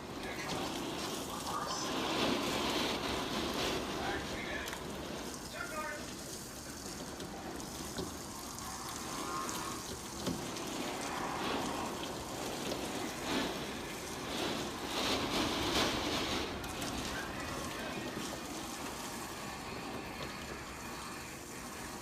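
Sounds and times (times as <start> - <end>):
strong wind and rain: 0.0 - 22.0.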